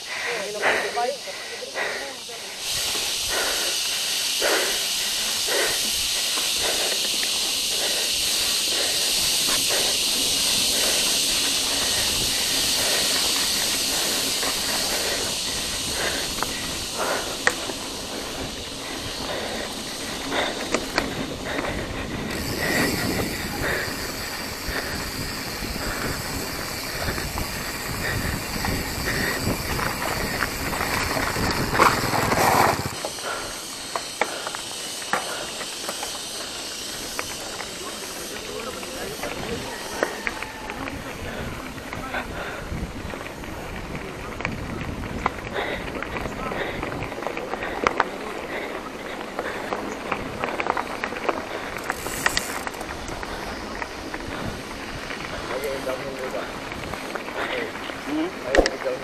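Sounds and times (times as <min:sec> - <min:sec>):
wind and tyre hiss: 0:00.0 - 0:59.0
bike rattling over bumps: 0:01.8 - 0:59.0.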